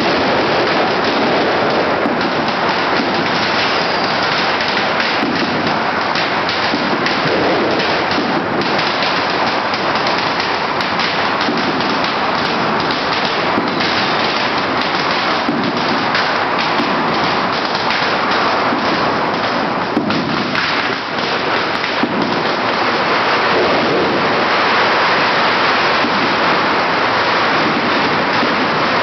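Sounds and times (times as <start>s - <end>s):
firecrackers crackling: 0.0s - 29.0s.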